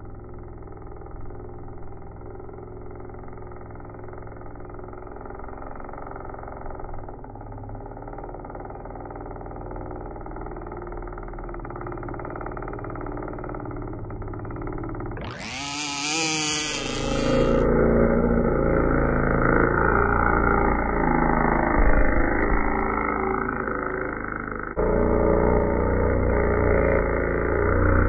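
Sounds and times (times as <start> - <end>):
two-stroke boat engine droning: 0.0 - 28.0.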